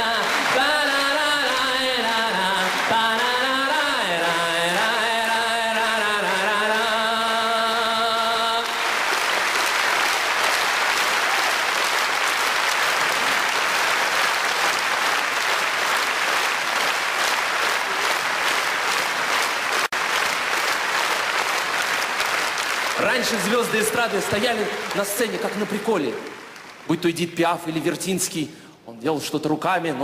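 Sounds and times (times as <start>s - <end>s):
audience applauding: 0.0s - 27.4s.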